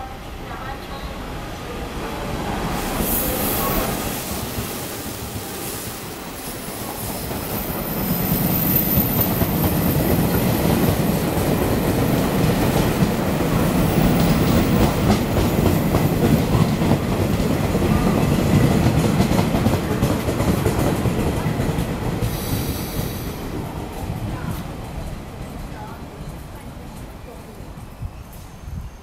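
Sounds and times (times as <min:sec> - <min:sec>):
train wheels rumbling on rails: 0:00.4 - 0:29.0.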